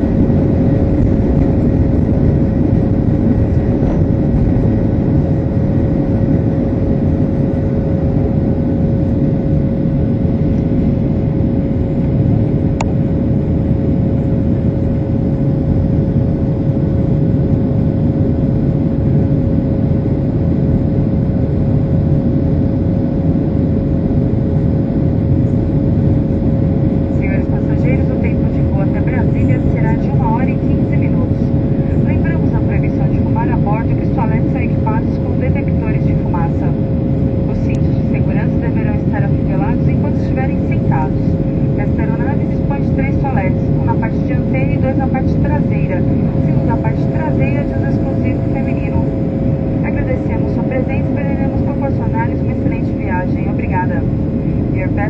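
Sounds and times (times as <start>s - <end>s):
jet engines and airflow rush: 0.0s - 55.0s
mid-pitched hum: 0.0s - 55.0s.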